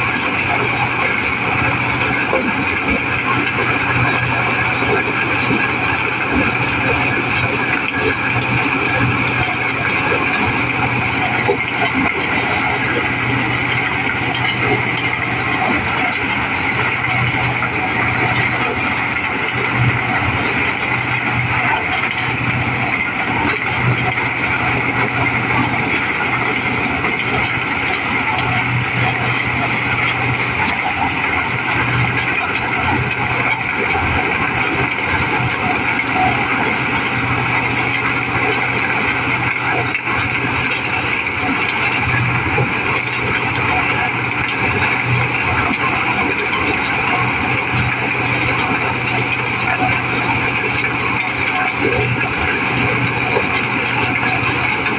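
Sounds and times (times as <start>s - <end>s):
corn sheller machine din: 0.0s - 54.9s.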